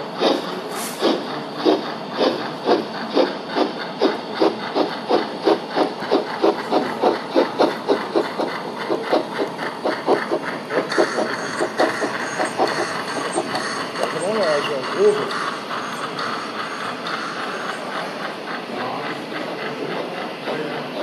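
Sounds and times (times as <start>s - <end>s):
model steam locomotive chuffing: 0.0s - 21.0s.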